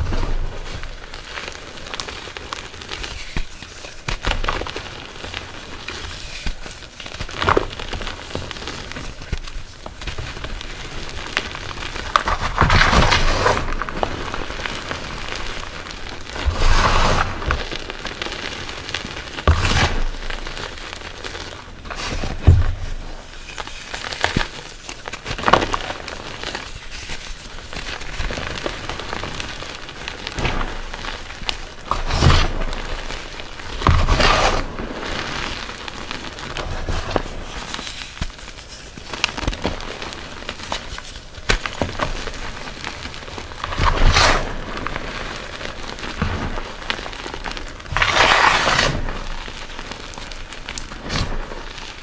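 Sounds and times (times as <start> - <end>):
chalk crunching and crackling: 0.0 - 52.0
steady rain: 0.0 - 52.0.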